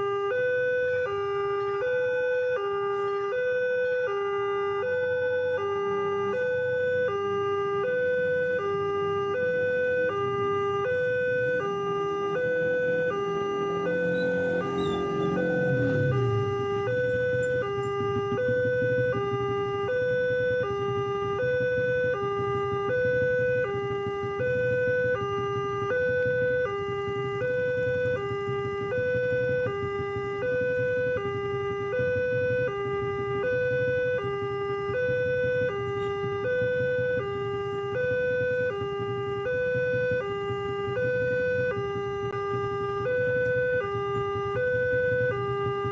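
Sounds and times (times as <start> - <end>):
level-crossing two-tone alarm: 0.0 - 45.9
passing engine drone: 0.4 - 45.9.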